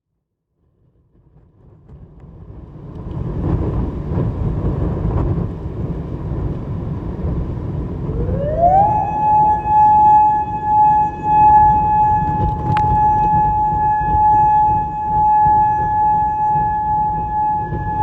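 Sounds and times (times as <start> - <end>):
wind buffeting microphone: 1.1 - 18.0
tornado warning siren: 2.4 - 18.0.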